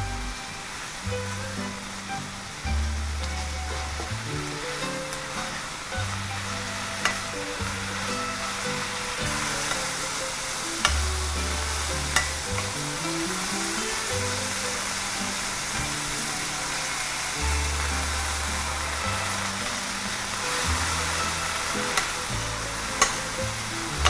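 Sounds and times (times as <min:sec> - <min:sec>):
background music with bass: 0:00.0 - 0:24.0
vegetables sizzling in oil: 0:00.0 - 0:24.0.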